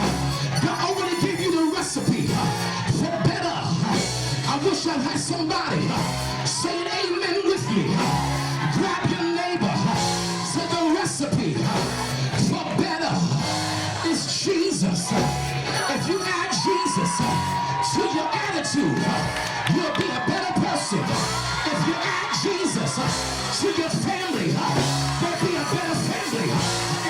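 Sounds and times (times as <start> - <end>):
person singing: 0.0 - 27.0.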